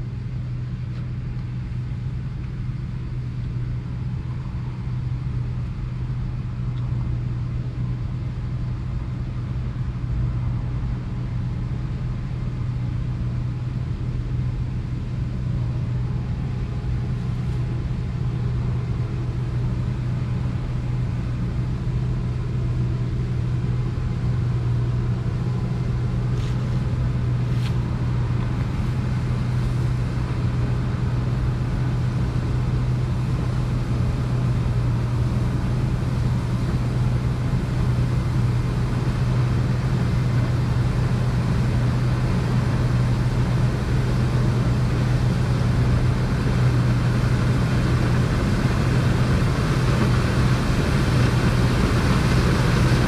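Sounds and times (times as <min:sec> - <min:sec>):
combine harvester humming: 0:00.0 - 0:53.0.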